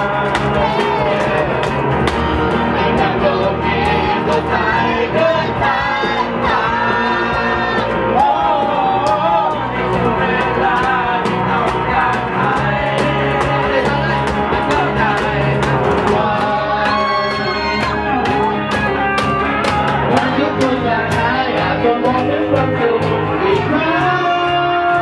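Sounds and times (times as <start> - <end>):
people singing together: 0.0 - 25.0
strummed acoustic guitar: 0.0 - 25.0.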